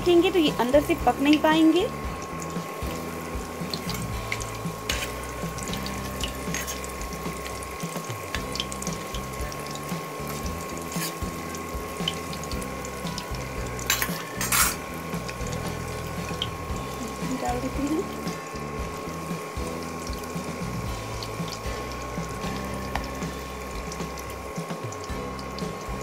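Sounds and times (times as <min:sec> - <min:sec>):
food deep-frying in hot oil: 0:00.0 - 0:26.0.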